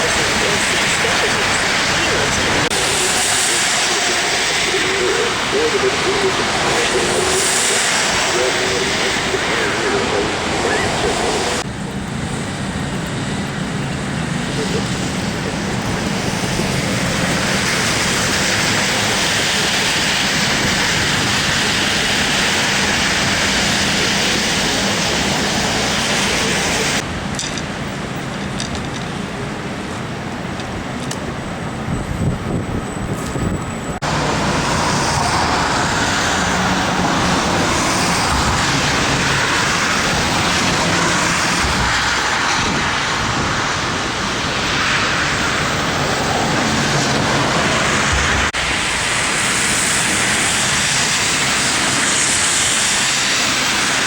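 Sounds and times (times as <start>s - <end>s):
hiss of passing vehicles: 0.0s - 11.7s, 12.4s - 28.2s, 34.0s - 54.0s.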